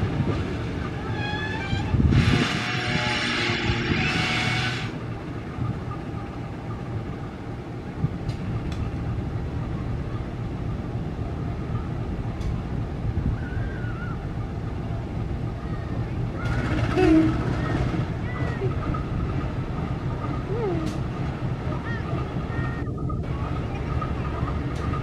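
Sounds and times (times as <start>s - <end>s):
locomotive engine rumbling: 0.0s - 25.0s.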